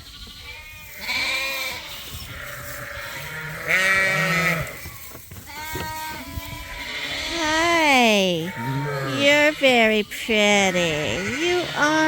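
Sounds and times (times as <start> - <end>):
other sheep calling: 0.0 - 12.0
sheep bleating: 0.0 - 12.0.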